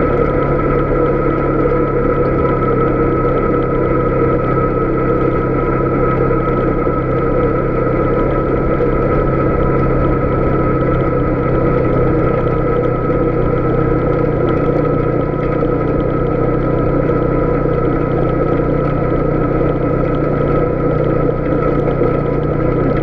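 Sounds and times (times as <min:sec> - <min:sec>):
atv engine rumbling: 0:00.0 - 0:23.0
held steady tones: 0:00.0 - 0:23.0.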